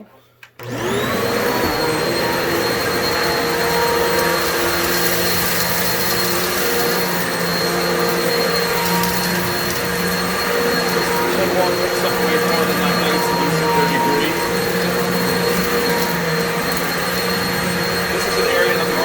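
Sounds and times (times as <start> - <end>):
upright vacuum cleaner running: 0.6 - 19.0.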